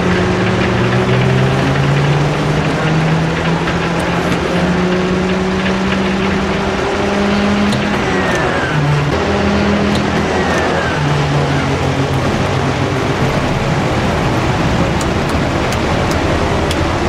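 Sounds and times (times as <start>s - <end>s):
radial aircraft engine droning: 0.0s - 17.0s.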